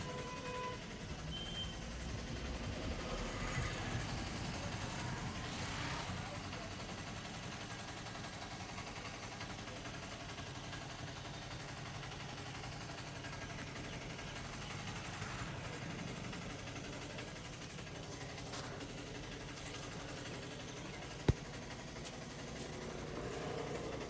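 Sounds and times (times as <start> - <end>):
engine idling: 0.0 - 24.0
street traffic: 0.0 - 24.0.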